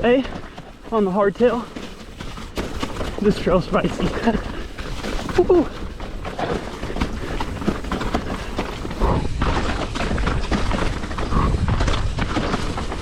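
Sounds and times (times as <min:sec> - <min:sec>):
bike rattling and knocking: 0:00.0 - 0:13.0
bike tyres on dirt and rock: 0:00.0 - 0:13.0.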